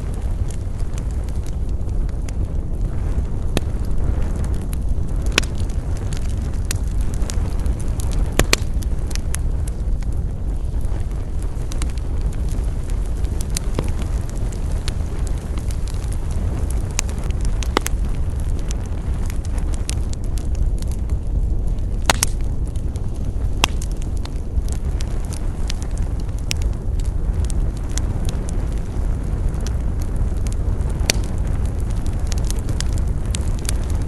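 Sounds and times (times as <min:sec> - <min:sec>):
burning wood crackling and popping: 0:00.0 - 0:34.0
rush of flames: 0:00.0 - 0:34.0.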